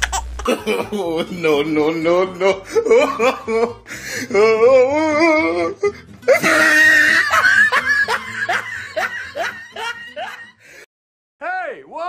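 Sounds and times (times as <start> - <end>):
person laughing: 0.0 - 10.5.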